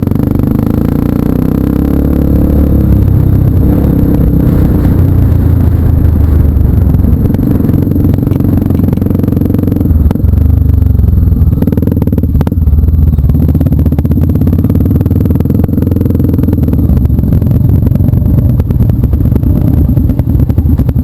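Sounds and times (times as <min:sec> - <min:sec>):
vehicle engine running loud: 0:00.0 - 0:21.0.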